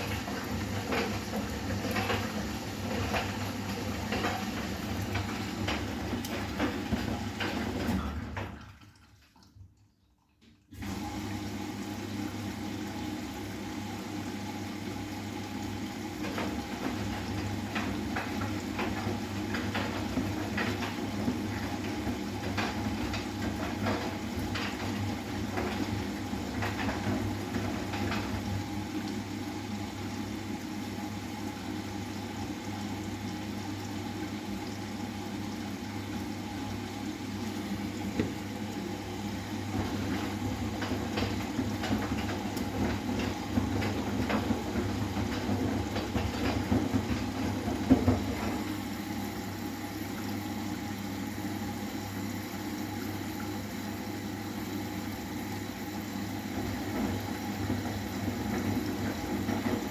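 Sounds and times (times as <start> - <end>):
wet laundry tumbling: 0.0 - 9.8, 10.4 - 59.9
running water: 0.0 - 59.9
washing machine motor hum: 0.0 - 59.9.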